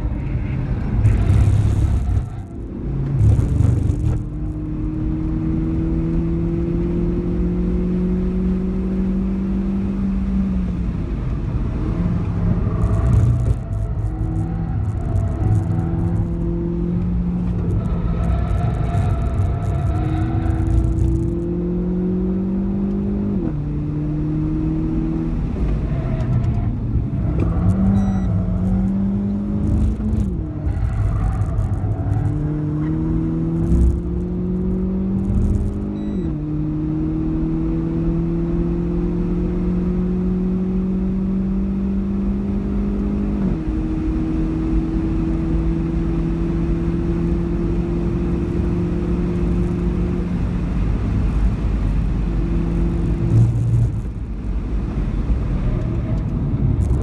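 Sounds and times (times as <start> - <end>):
car engine accelerating hard: 0.0 - 57.0.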